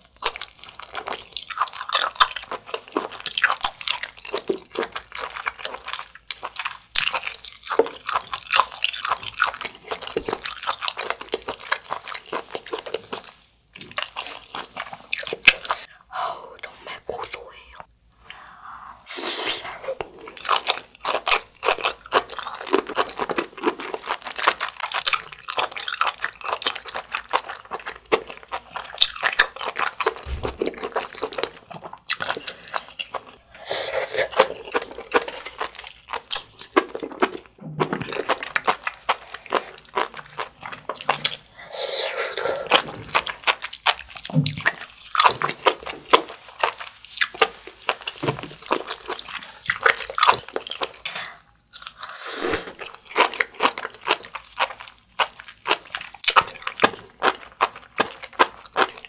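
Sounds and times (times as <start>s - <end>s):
wet crunchy chewing: 0.0s - 15.9s, 19.1s - 59.0s.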